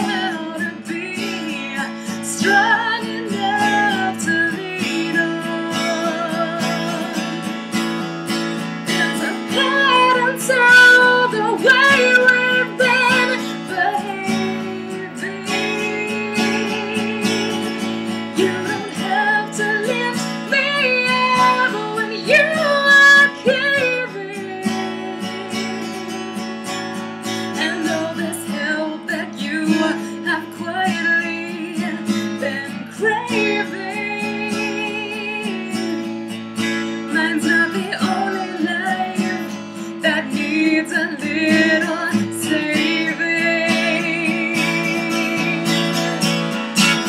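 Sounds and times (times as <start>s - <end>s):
strummed acoustic guitar: 0.0s - 47.0s
woman singing: 0.0s - 47.0s.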